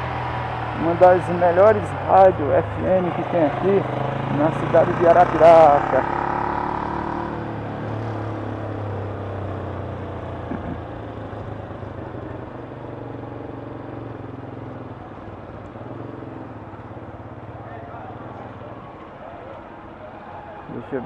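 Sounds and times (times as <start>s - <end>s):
motorcycle engine running: 0.0s - 18.9s
traffic: 0.0s - 21.0s.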